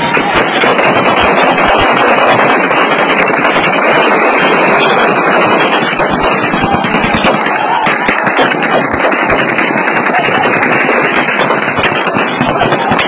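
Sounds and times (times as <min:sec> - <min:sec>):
dense gunfire: 0:00.0 - 0:13.0.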